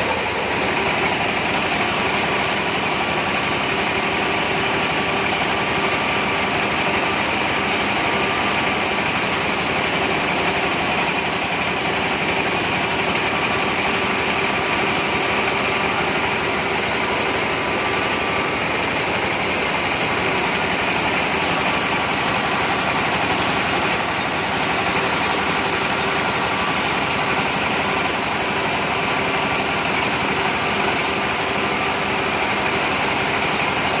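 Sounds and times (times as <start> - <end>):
machine motor humming: 0.0 - 34.0.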